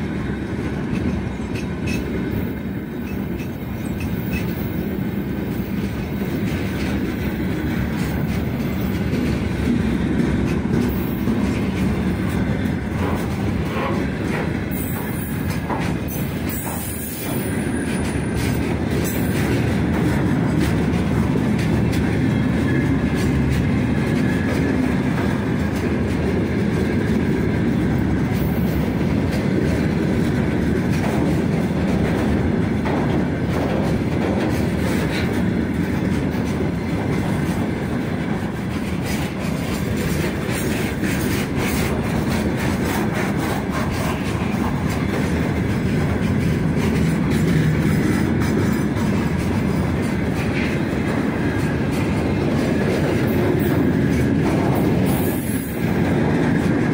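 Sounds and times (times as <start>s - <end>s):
freight train rumbling past: 0.0s - 56.9s
wheels clattering over rail joints: 0.5s - 56.9s.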